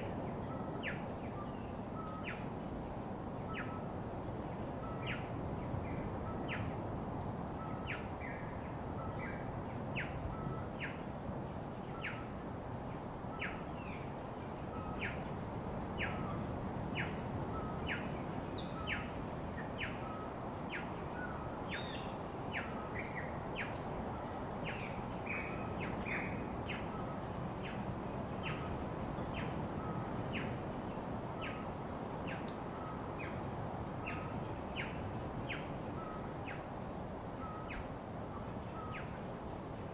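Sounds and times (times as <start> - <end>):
constant high-pitched hum: 0.0 - 39.9.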